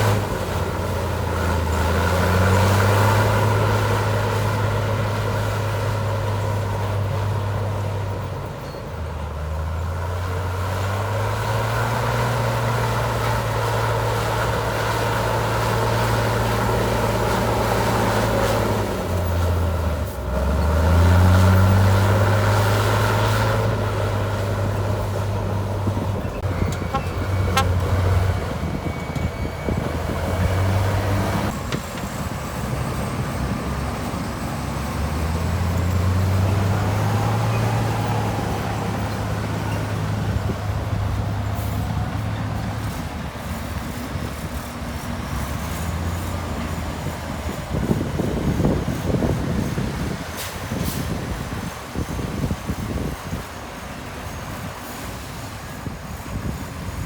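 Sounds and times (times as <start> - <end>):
heavy diesel engine revving: 0.0 - 8.1, 9.3 - 53.4.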